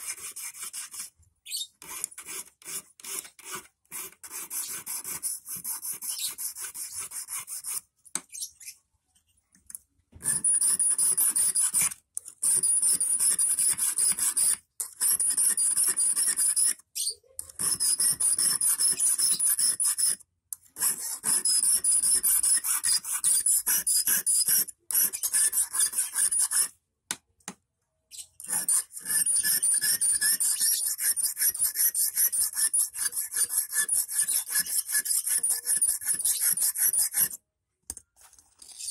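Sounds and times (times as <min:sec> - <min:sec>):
hand file rasping on wire: 0:00.0 - 0:07.8, 0:10.2 - 0:16.8, 0:17.4 - 0:26.8, 0:28.4 - 0:37.4.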